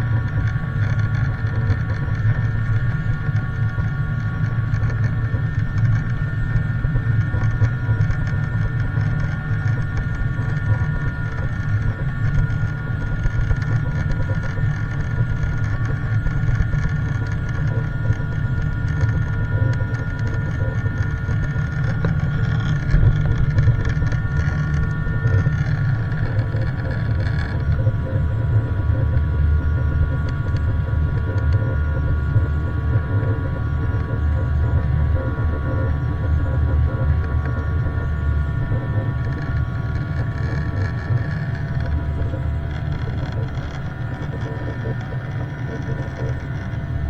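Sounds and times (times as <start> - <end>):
jet engines in cabin: 0.0 - 47.0.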